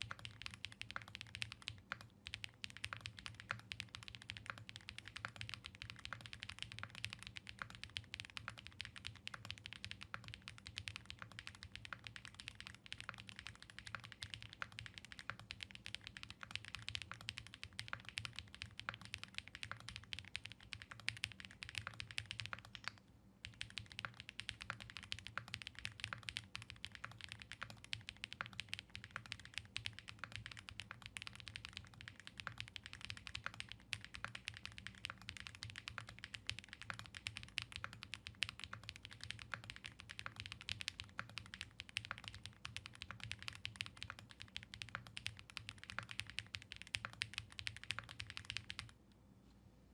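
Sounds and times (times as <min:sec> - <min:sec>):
mechanical keyboard typing: 0:00.0 - 0:49.0.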